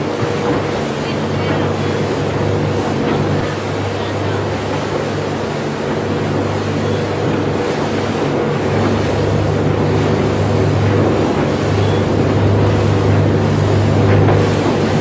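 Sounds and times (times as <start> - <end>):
boat engine droning: 0.0 - 15.0
water rushing along hull: 0.0 - 15.0
wind buffeting microphone: 0.0 - 15.0.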